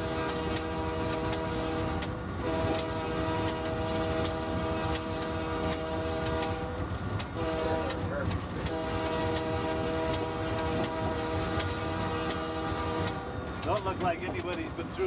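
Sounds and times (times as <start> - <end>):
locomotive air horn blasts: 0.0 - 13.3
diesel engine low rumble: 0.0 - 15.0
wheels clicking over rail joints: 0.0 - 15.0.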